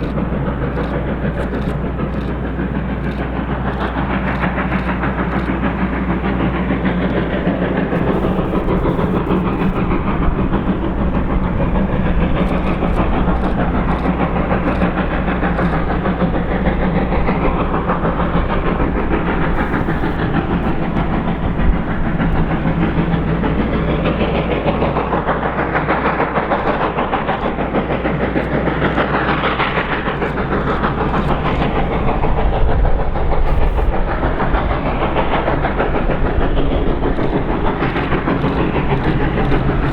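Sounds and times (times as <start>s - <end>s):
steam train running: 0.0s - 39.9s.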